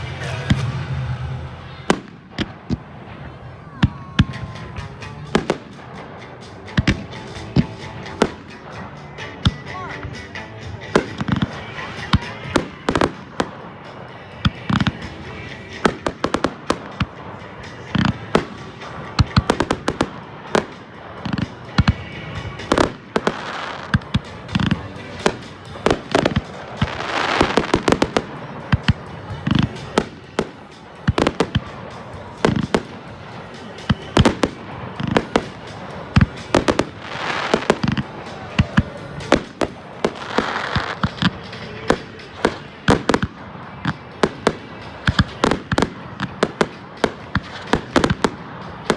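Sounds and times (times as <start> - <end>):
background music: 0.0 - 48.9
fireworks bursting with bangs: 0.0 - 48.9
fireworks hissing: 0.0 - 48.9.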